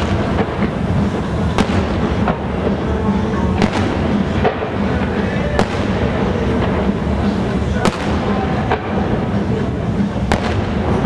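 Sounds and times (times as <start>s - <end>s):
background music: 0.0s - 11.0s
fireworks bangs: 0.0s - 11.0s.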